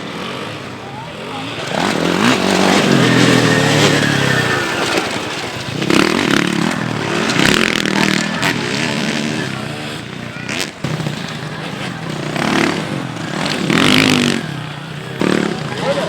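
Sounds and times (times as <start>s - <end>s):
motocross bikes revving past: 0.0s - 16.0s.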